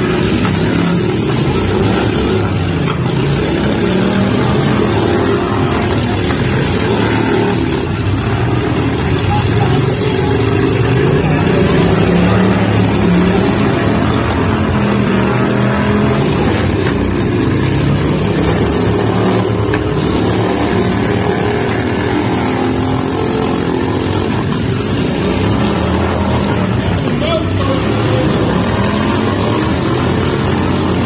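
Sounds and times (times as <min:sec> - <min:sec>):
lawn tractor engines droning: 0:00.0 - 0:31.0.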